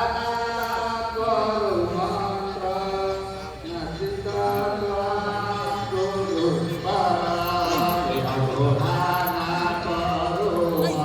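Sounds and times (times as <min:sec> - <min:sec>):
devotional chanting: 0:00.0 - 0:11.0.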